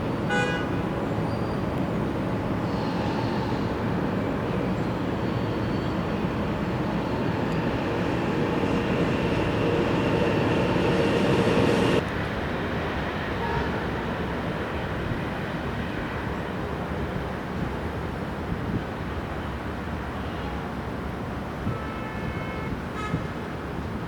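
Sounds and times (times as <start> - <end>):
train running on rails: 0.0 - 24.0.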